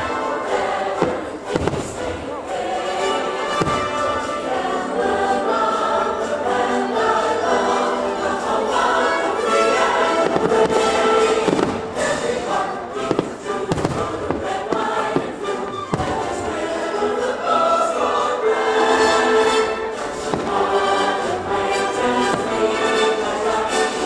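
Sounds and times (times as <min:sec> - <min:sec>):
choir singing: 0:00.0 - 0:24.0
fireworks bursting: 0:00.0 - 0:24.0
orchestral music: 0:00.0 - 0:24.0.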